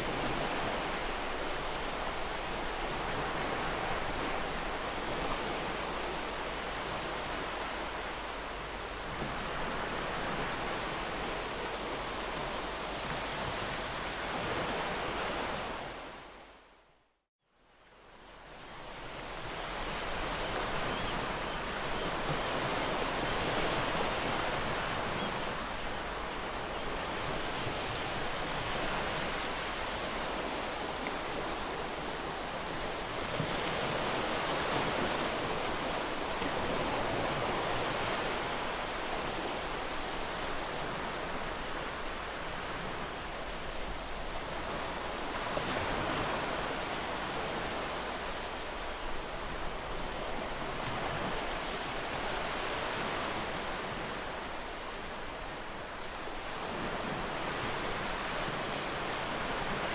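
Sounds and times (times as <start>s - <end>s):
ocean surf breaking on shore: 0.0s - 16.4s, 18.5s - 59.9s.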